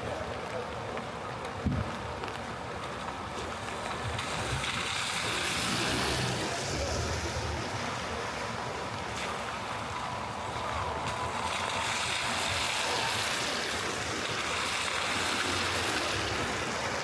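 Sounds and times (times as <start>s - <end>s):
rain on wet street: 0.0s - 17.0s.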